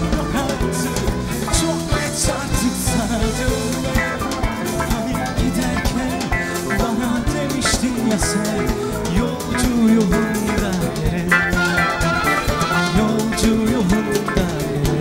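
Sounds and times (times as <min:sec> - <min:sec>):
live pop band music: 0:00.0 - 0:15.0
man singing: 0:00.0 - 0:15.0.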